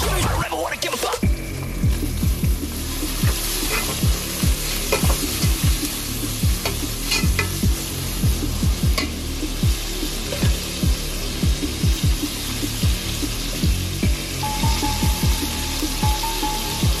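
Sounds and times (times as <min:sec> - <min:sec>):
chicken and onions sizzling in oil: 0:01.2 - 0:17.0.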